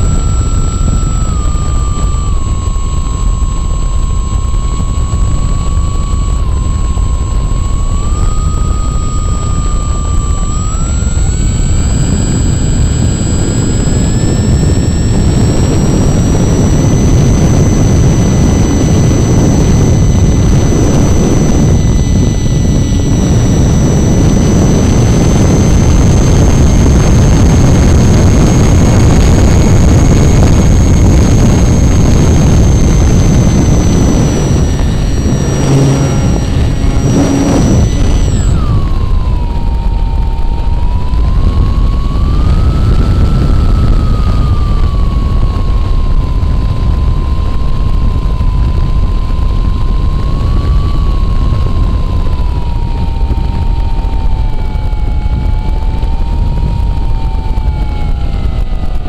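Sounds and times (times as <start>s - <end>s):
model propeller motor whine: 0.0s - 59.0s
wind rush: 0.0s - 59.0s.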